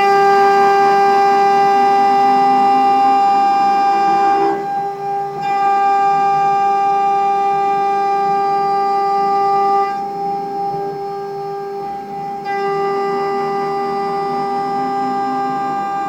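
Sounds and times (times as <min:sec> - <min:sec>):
mill cutting metal whine: 0:00.0 - 0:16.0.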